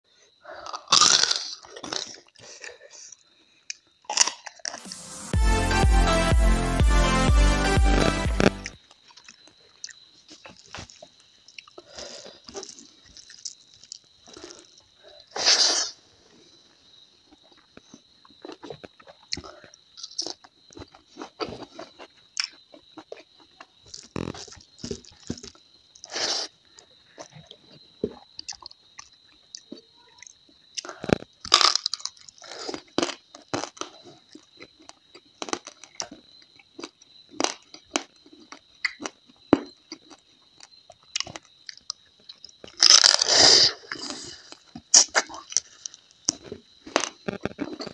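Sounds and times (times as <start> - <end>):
crunchy chewing: 0.4 - 4.9, 8.5 - 47.9.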